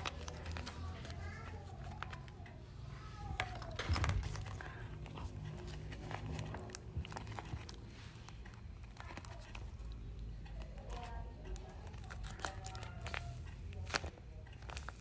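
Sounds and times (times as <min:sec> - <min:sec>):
paper rustling and crinkling: 0:00.0 - 0:02.4, 0:03.3 - 0:10.0, 0:10.6 - 0:15.0.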